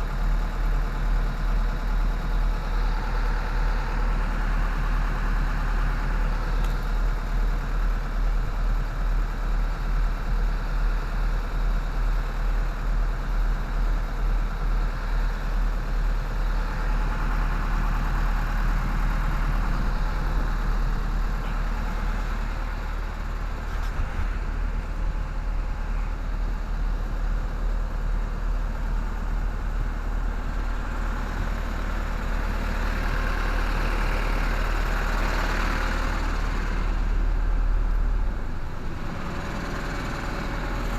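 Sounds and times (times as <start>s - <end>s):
refrigeration unit engine drone: 0.0s - 40.9s.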